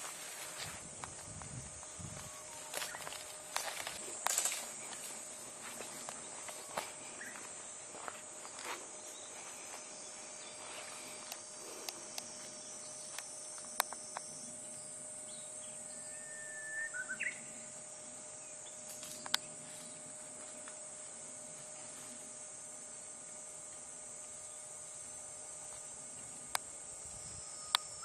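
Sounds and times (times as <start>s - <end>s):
high-pitched insect buzzing: 0.0s - 20.8s, 24.2s - 28.0s.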